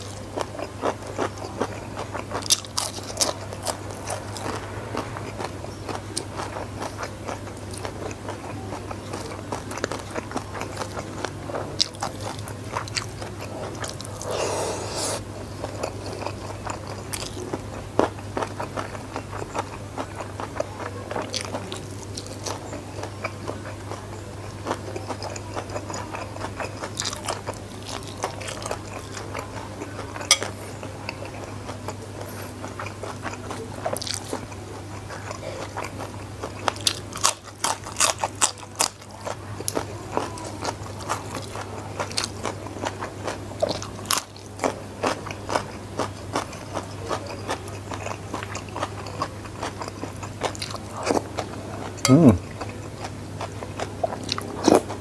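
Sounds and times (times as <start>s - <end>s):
steady low hum: 0.0s - 46.6s
wet chewing: 0.0s - 55.0s.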